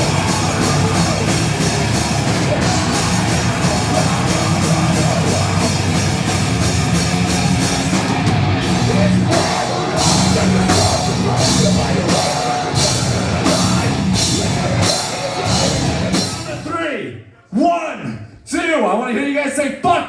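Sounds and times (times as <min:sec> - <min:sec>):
heavy metal band playing: 0:00.0 - 0:16.8.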